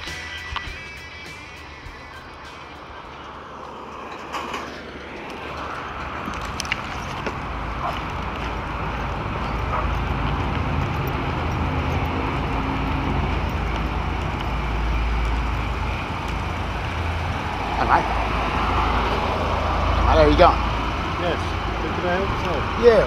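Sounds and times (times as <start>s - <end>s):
road and vehicle rumble: 0.0s - 23.0s.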